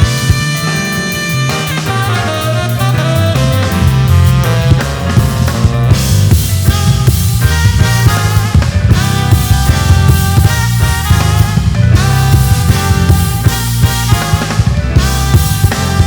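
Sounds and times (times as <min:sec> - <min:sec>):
drum kit beat: 0:00.0 - 0:16.0
heavy bass line: 0:00.0 - 0:16.0
sustained keyboard chords: 0:00.0 - 0:16.0.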